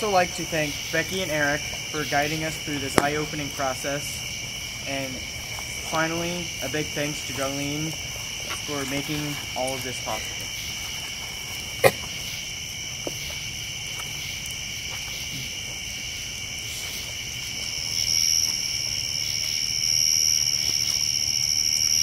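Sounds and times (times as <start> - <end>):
crickets and insects trilling: 0.0 - 22.0.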